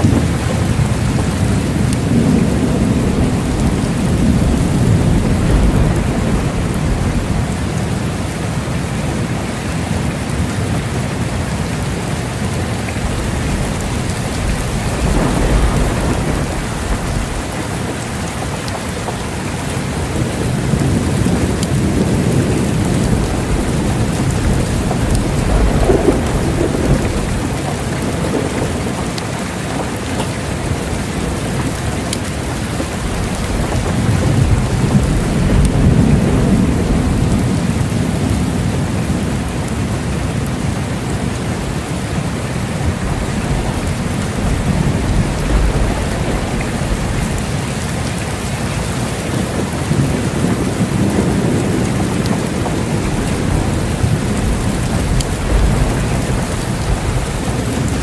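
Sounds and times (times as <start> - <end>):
heavy rain: 0.0 - 58.0
rolling thunder: 0.0 - 58.0.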